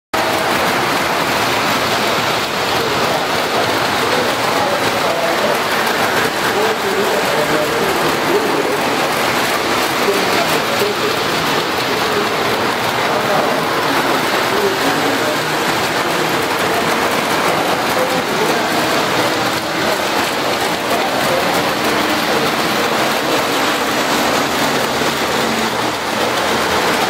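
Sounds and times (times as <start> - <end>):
model trains rolling on track: 0.2 - 27.0.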